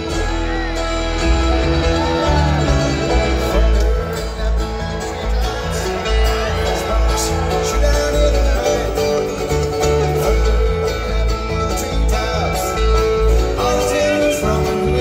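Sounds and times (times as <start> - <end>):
acoustic guitars: 0.0 - 15.0
banjo: 0.0 - 15.0
mandolin: 0.0 - 15.0
upright bass: 0.0 - 15.0.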